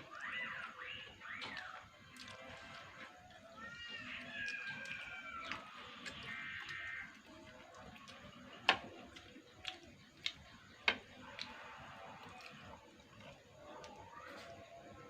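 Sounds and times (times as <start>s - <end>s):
low background noise: 0.0s - 15.0s
sharp eating clicks: 0.1s - 14.1s.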